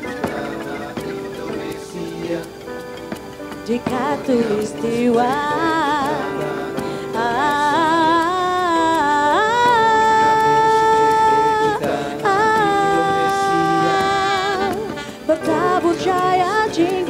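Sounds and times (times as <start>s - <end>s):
live band slow melody: 0.0s - 17.0s.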